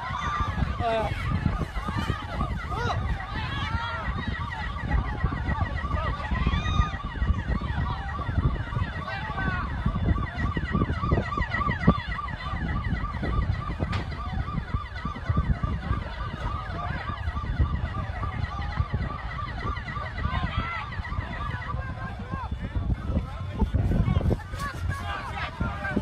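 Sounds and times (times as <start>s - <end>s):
emergency vehicle sirens: 0.0s - 26.0s.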